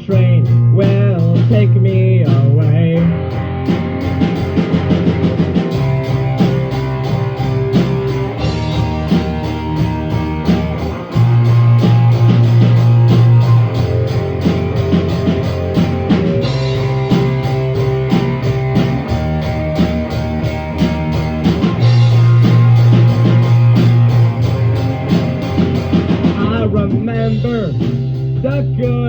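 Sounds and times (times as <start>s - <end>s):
bass guitar: 0.0s - 29.0s
drum kit: 0.0s - 29.0s
guitar: 0.0s - 29.0s.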